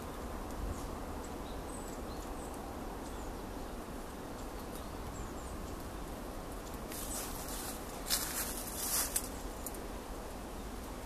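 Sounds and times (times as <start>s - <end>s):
songbirds calling: 0.0s - 11.0s.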